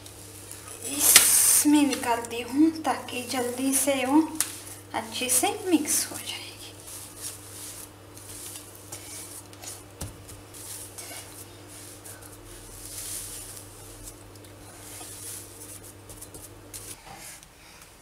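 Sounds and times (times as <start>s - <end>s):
hands mashing crumbly mixture: 0.0s - 17.0s.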